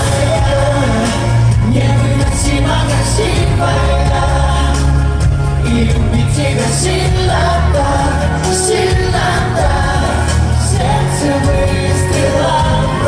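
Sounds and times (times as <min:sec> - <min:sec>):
band with heavy bass: 0:00.0 - 0:13.0
men singing: 0:00.0 - 0:13.0.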